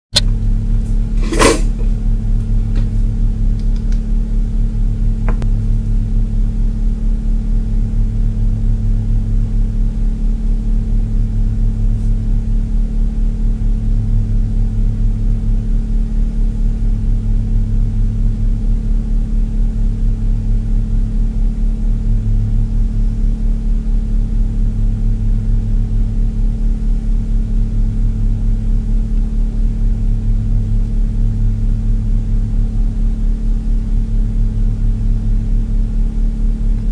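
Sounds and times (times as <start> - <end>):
loud low electrical hum: 0.2 - 36.9.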